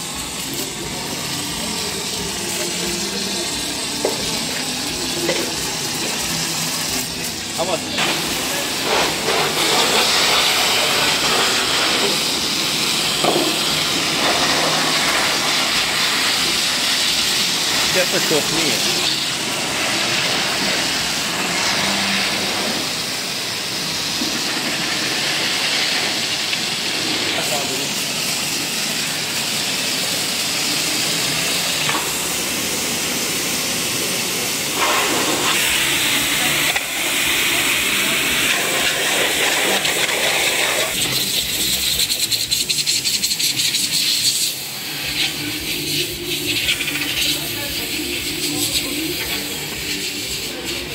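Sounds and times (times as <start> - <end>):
foam lance spraying hiss: 0.0 - 50.9.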